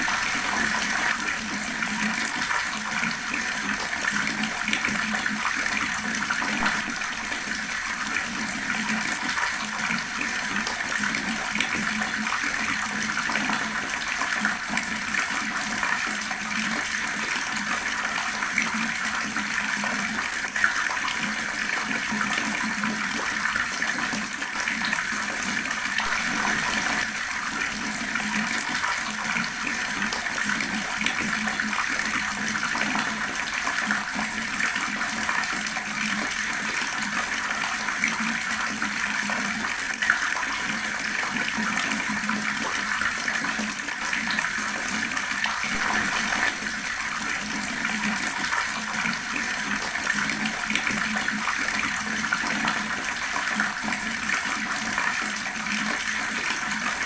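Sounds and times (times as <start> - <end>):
water running from tap: 0.0 - 57.0.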